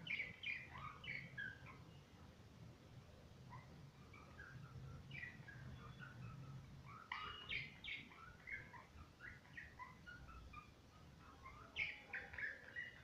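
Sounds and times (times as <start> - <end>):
budgerigars chirping: 0.0 - 1.9, 4.0 - 13.0.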